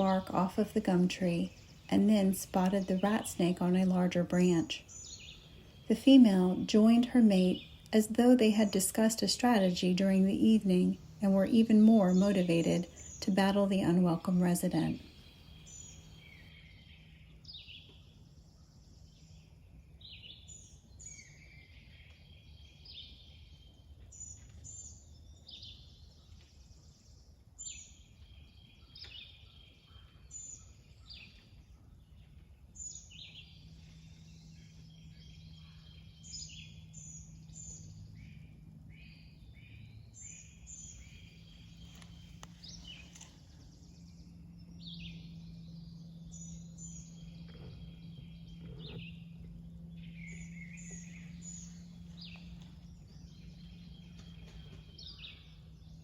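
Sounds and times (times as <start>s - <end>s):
faint birdsong: 0.0s - 56.0s
low steady hum: 0.0s - 56.0s.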